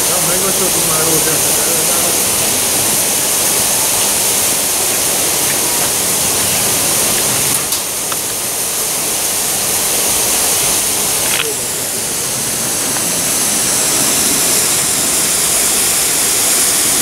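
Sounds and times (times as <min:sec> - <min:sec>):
water jets hissing from leaks: 0:00.0 - 0:17.0
water spraying onto wet pavement: 0:00.0 - 0:17.0.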